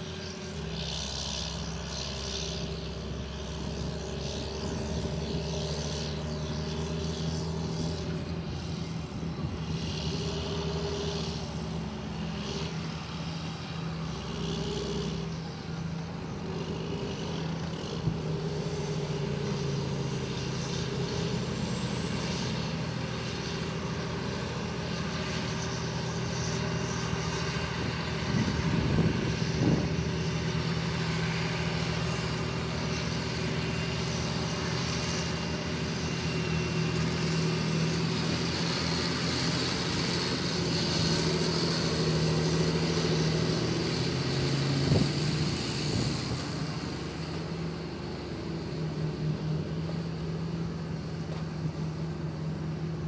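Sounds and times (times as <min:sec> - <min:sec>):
tractor diesel engine droning: 0:00.0 - 0:53.0.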